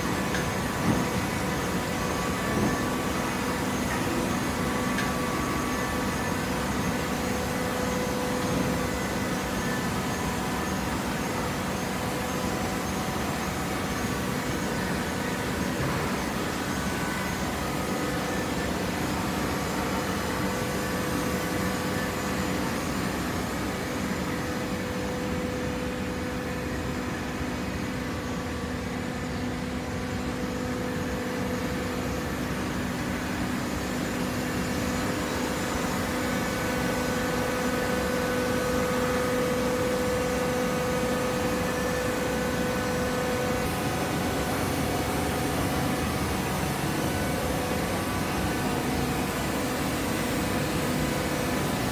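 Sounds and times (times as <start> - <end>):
baling press machine hum: 0.0 - 51.9
steady machine whine: 0.0 - 51.9.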